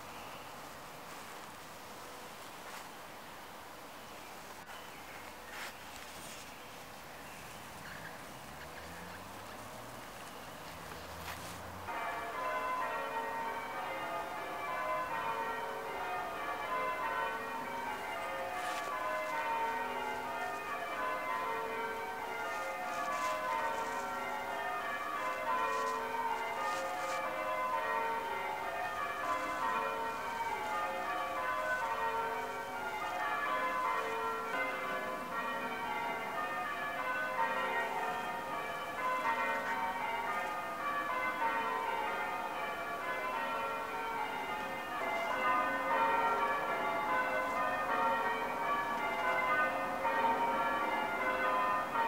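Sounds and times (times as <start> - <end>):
church bells ringing: 8.0 - 52.0.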